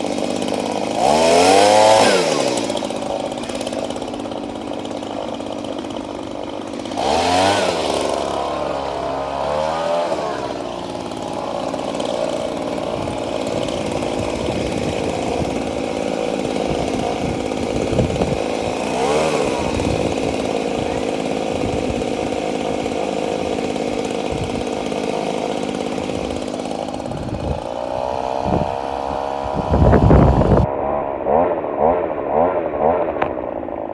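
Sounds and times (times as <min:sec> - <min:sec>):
small petrol engine revving: 0:00.0 - 0:33.9.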